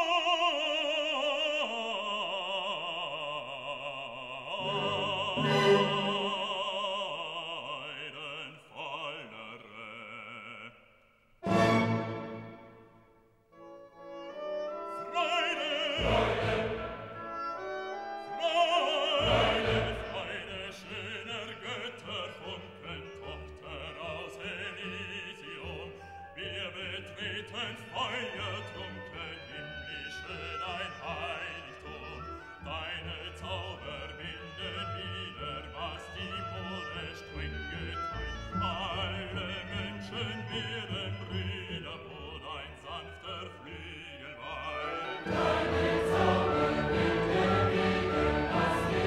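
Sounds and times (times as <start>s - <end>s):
operatic singing with orchestra: 0.0s - 10.8s, 11.4s - 12.9s, 14.7s - 49.0s.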